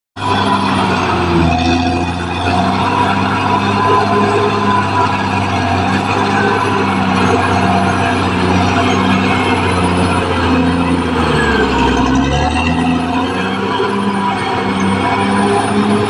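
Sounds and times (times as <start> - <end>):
bulldozer diesel engine running: 0.2 - 16.0.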